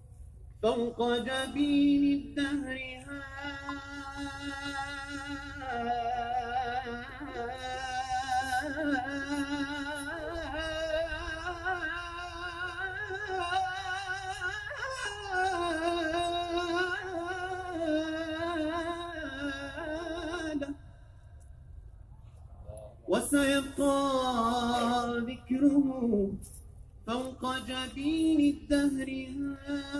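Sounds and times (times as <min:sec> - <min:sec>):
man singing wordless melody: 0:00.6 - 0:20.8, 0:23.1 - 0:26.4, 0:27.0 - 0:29.9.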